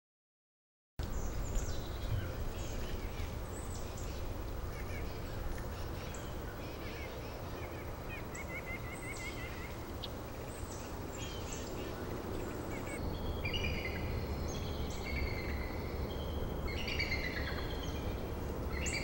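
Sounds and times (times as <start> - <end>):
birds chirping and calling: 1.0 - 19.0
steady low rumble: 1.0 - 19.0.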